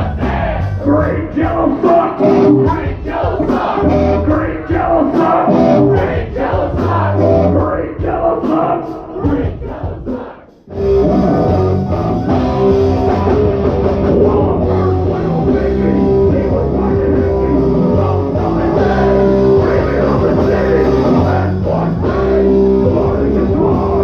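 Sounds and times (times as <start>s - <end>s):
person singing: 0.0s - 10.2s, 11.0s - 24.0s
rock band playing live: 0.0s - 24.0s.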